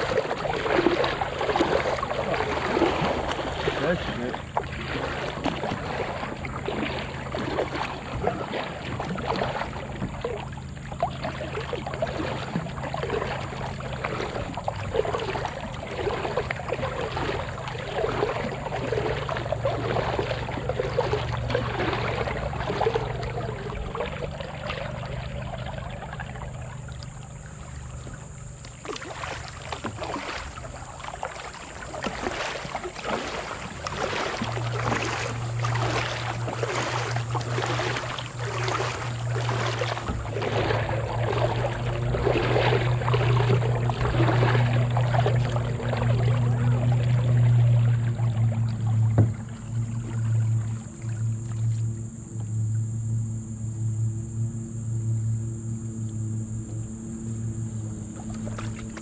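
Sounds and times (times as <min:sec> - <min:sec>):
paddle splashes and drips: 0:00.0 - 0:59.0
water sloshing along hull: 0:00.0 - 0:59.0.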